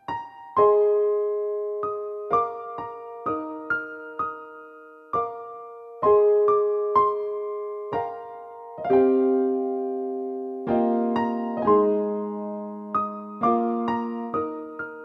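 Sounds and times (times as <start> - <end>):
gentle keyboard melody: 0.0 - 15.0.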